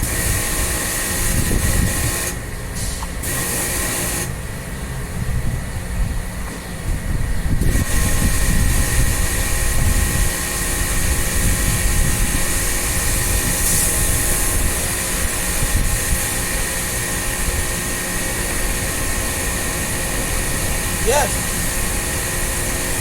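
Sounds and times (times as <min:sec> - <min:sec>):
machine running with hiss: 0:00.0 - 0:04.5, 0:07.5 - 0:23.0.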